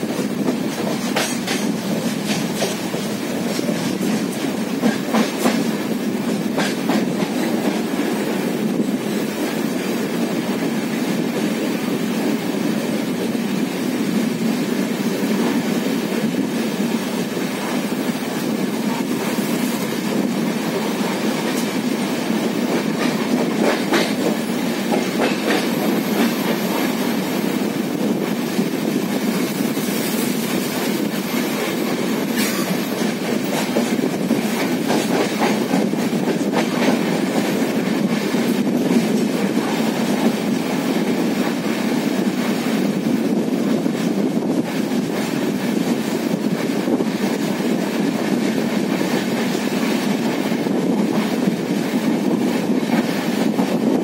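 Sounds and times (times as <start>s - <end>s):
train wheel clacks: 0.0s - 54.0s
train wheels rumbling on rail: 0.0s - 54.0s.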